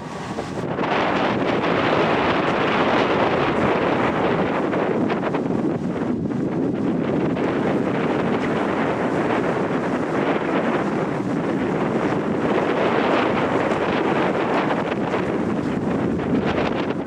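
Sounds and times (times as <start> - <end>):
boat running noise: 0.0 - 17.0
wind rushing over microphone: 0.0 - 17.0.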